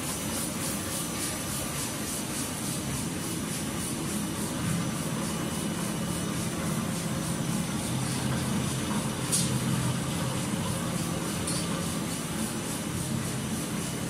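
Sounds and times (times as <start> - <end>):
machine humming and hissing: 0.0 - 14.0.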